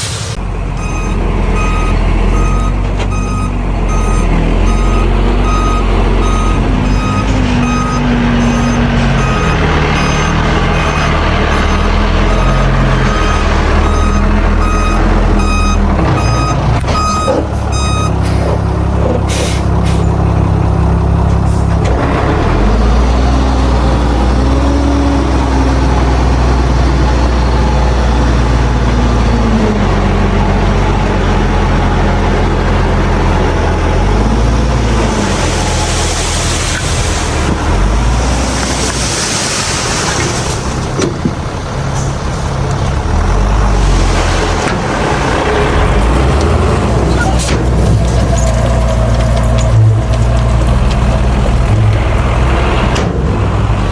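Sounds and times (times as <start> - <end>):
diesel machinery engine revving: 0.0 - 53.9.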